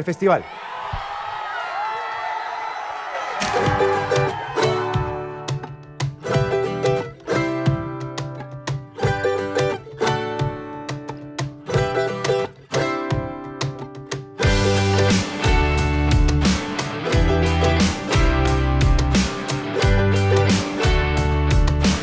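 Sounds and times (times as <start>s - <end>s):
plucked string music: 3.6s - 22.0s.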